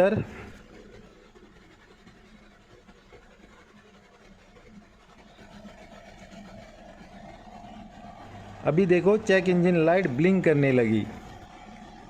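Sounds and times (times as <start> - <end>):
faint misfiring car engine: 0.0 - 12.0.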